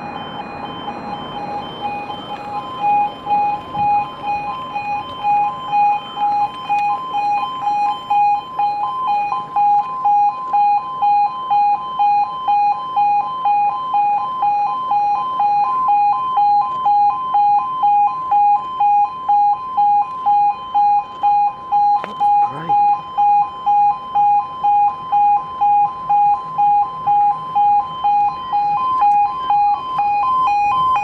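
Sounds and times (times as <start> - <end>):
two-tone crossing alarm: 0.0 - 31.0.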